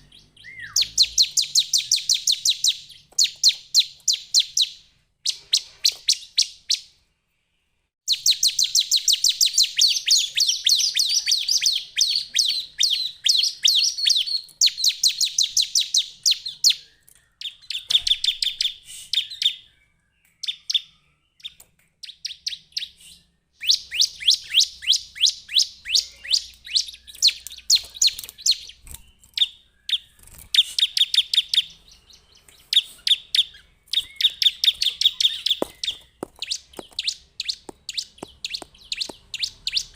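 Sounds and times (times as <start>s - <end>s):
bird singing high chirps: 0.0s - 7.0s, 8.1s - 39.9s.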